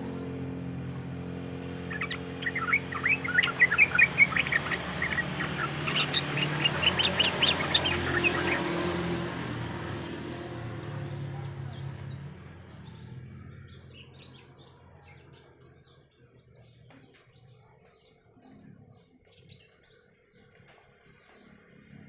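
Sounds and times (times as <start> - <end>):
bird singing chattering notes: 0.0 - 21.6.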